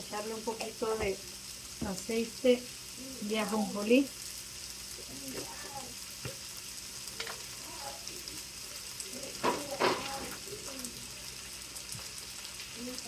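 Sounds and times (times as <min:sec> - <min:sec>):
rice sizzling in a skillet: 0:00.0 - 0:13.0.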